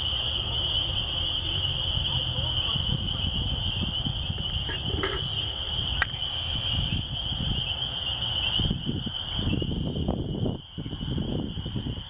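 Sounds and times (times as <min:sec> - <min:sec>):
chorus of peeping frogs: 0:00.0 - 0:12.0.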